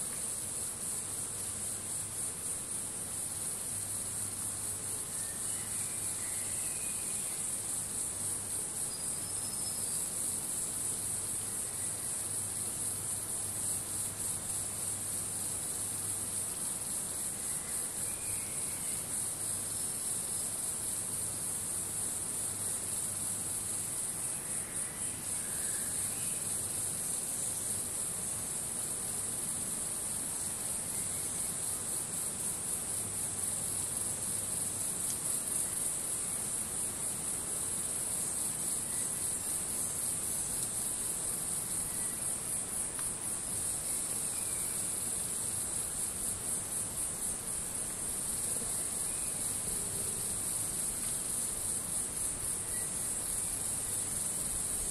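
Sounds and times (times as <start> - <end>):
insects trilling in chorus: 0.0 - 54.9.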